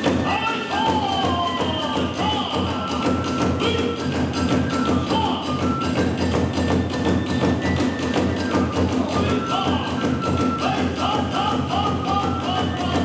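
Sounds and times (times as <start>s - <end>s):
bamboo flute high notes: 0.0s - 13.0s.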